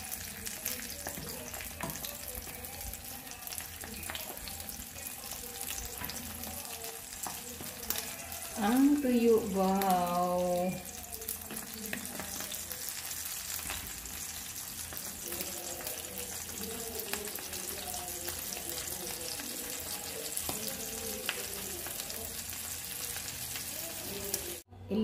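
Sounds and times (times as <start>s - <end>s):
fish frying in hot oil: 0.0s - 24.7s.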